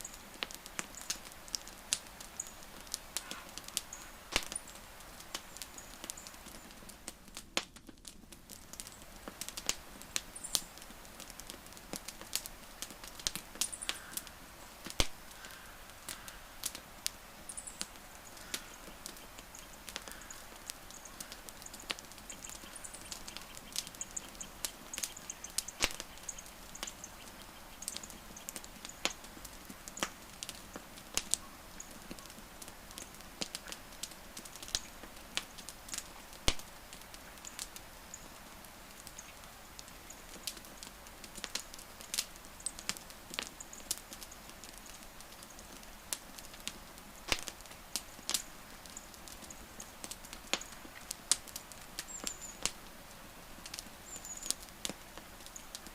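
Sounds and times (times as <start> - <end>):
campfire crackling and popping: 0.0 - 55.9
soft steady hiss: 0.0 - 55.9.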